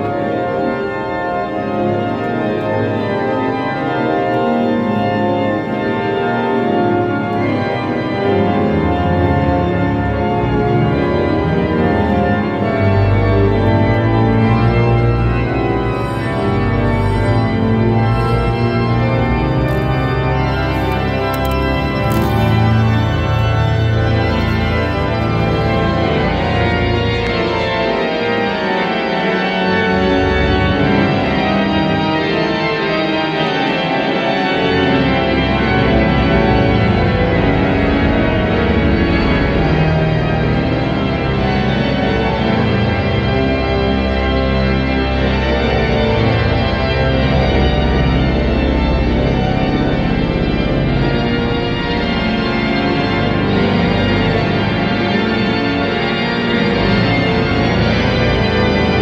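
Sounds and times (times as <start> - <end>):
deep organ pedal bass notes: 0.0 - 33.1, 34.2 - 59.0
pipe organ chords: 0.0 - 59.0.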